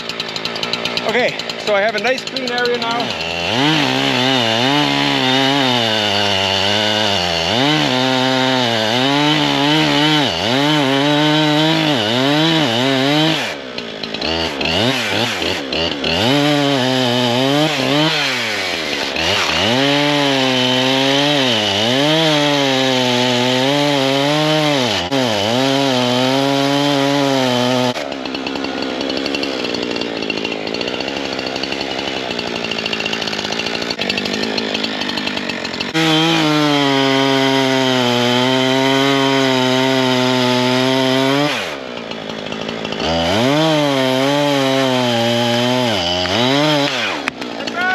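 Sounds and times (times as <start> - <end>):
two-stroke chainsaw revving: 0.0 - 47.9.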